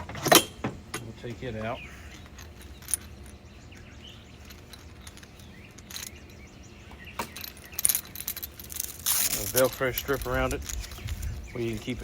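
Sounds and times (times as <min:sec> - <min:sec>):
faint outdoor background: 0:00.0 - 0:12.0
bird chirp: 0:01.1 - 0:08.8, 0:09.6 - 0:12.0.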